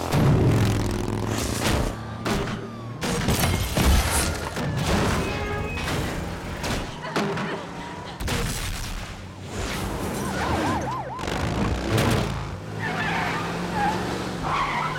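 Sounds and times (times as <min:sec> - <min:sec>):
vehicle noise: 0:00.0 - 0:14.9.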